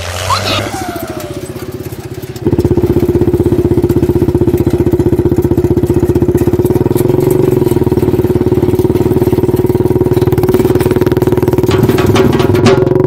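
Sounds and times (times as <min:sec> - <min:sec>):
small tractor engine chugging: 0:00.0 - 0:13.0.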